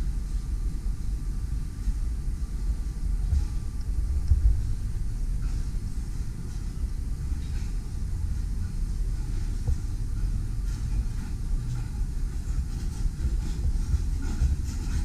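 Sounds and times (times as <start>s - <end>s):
store background rumble: 0.0s - 15.0s.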